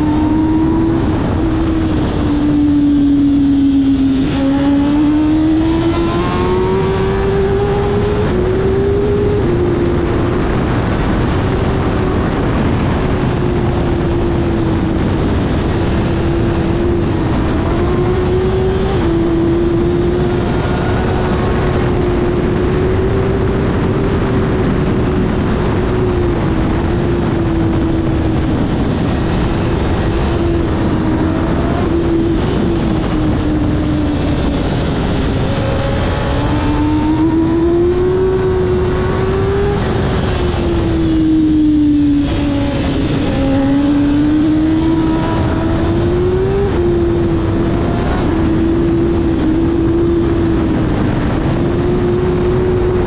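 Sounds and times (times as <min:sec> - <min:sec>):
race bike engine at high revs: 0:00.0 - 0:53.0
wind rush on microphone: 0:00.0 - 0:53.0.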